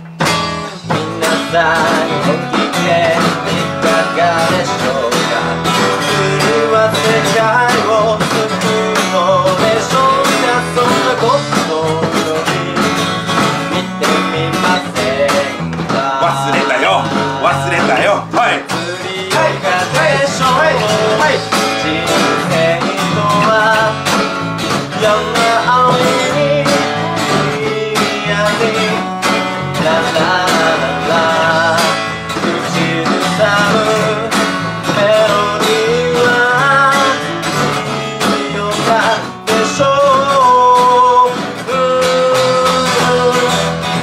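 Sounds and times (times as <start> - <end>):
drum kit: 0.0 - 44.0
electric bass: 0.0 - 44.0
strummed acoustic guitar: 0.0 - 44.0
man singing: 0.2 - 44.0.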